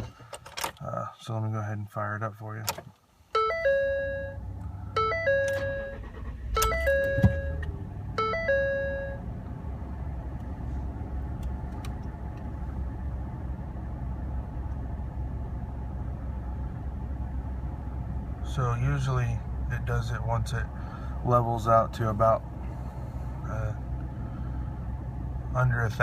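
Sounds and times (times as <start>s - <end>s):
truck engine starting and idling: 3.4s - 26.0s.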